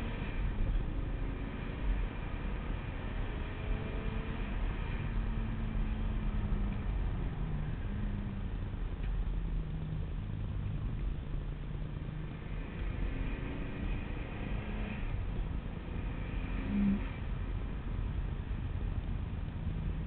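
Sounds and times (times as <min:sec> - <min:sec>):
car engine at speed: 0:00.0 - 0:20.0
wind and road noise: 0:00.0 - 0:20.0.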